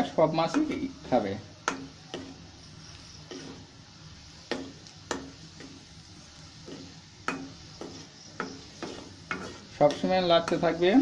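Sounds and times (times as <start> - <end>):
garlic sizzling in oil: 0.0 - 11.0.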